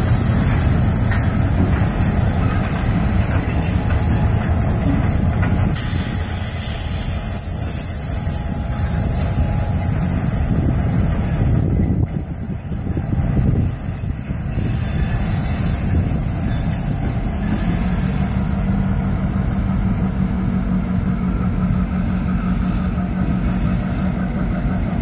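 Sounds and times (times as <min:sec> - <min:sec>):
diesel locomotive rumbling: 0:00.0 - 0:25.0
rolling train wheels: 0:00.0 - 0:25.0.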